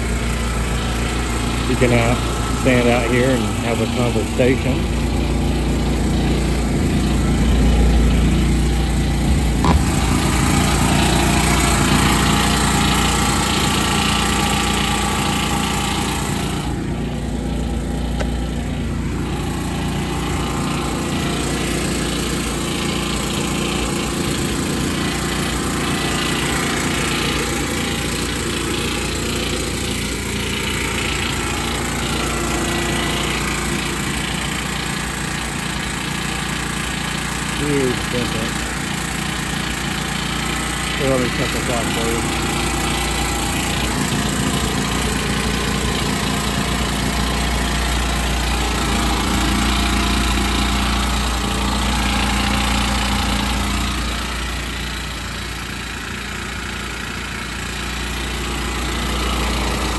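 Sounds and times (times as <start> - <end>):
generator engine running: 0.0 - 59.9.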